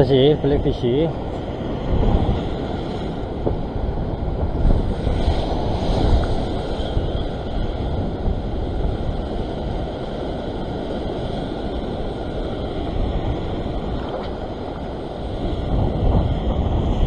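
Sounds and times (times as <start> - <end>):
ocean surf washing around rocks: 0.0 - 17.0
wind rumble on microphone: 0.0 - 17.0.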